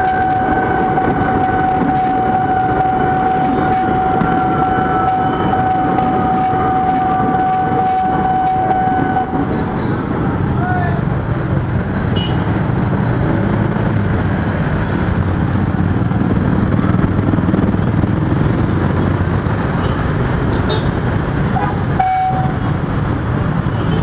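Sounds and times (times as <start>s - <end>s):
motorcycle and car traffic drone: 0.0s - 24.0s.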